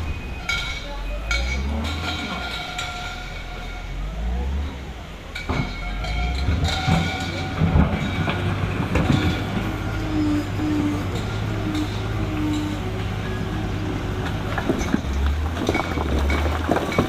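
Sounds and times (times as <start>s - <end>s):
knocks and rattles: 0.0s - 17.0s
vehicle engine humming: 0.0s - 17.0s.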